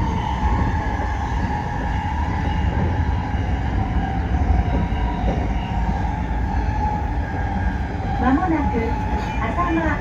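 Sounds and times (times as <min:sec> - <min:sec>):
train wheels rumbling on rail: 0:00.0 - 0:10.0
train whine: 0:00.0 - 0:10.0.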